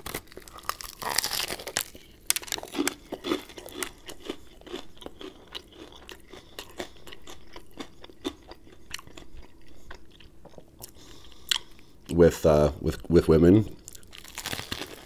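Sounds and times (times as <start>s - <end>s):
person chewing crispy chicken: 0.0s - 12.2s, 13.8s - 15.0s.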